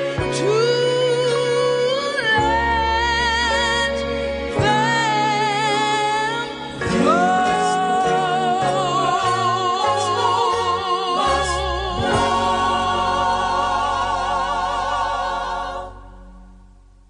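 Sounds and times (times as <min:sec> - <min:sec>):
person singing with vibrato: 0:00.0 - 0:16.4
bass line: 0:00.0 - 0:17.0.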